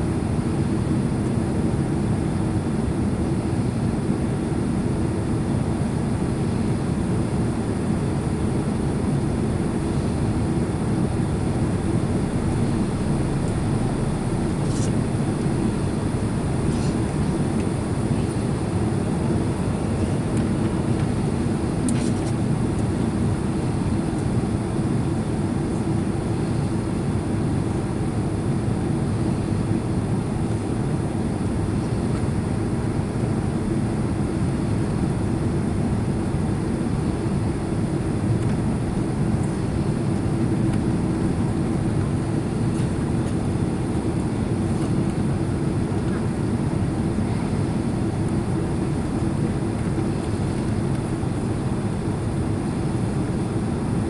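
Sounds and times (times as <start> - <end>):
airliner engine and airflow noise: 0.0 - 54.0
steady low hum: 0.0 - 54.0.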